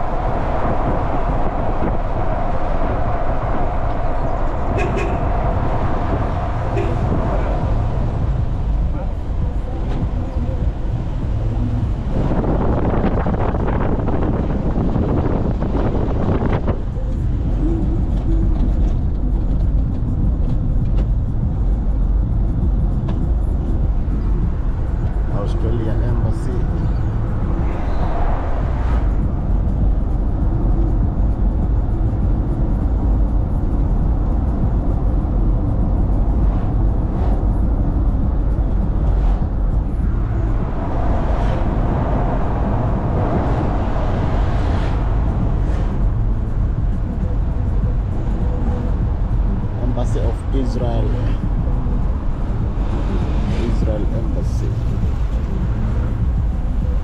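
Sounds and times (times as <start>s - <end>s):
passing traffic whooshes: 0.0s - 57.0s
vehicle engine and road noise: 0.0s - 57.0s.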